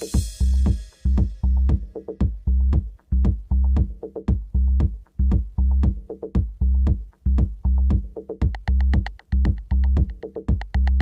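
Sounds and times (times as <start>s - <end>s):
pounding bass beat: 0.0s - 11.0s.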